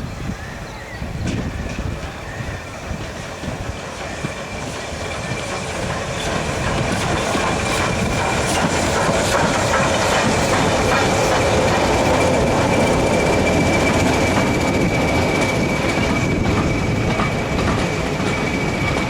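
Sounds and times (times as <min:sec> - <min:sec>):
train wheels clicking on rails: 0:01.1 - 0:19.0.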